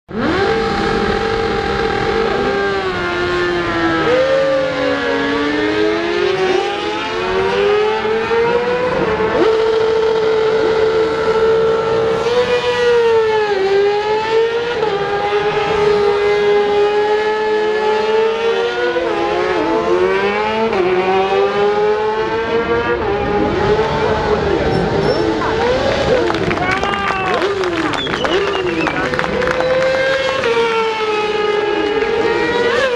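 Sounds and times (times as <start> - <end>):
racing motorcycles passing: 0.1 - 32.9.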